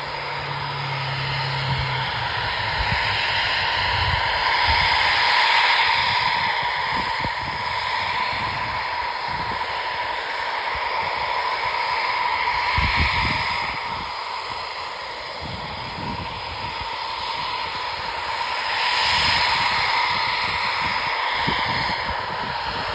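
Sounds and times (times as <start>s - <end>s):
distant piston engine: 0.0s - 22.9s.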